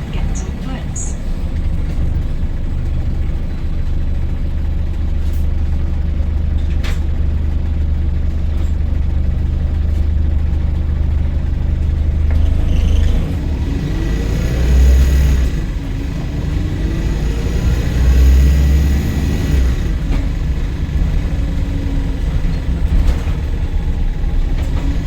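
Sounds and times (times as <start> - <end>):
bus diesel engine droning: 0.0 - 25.0.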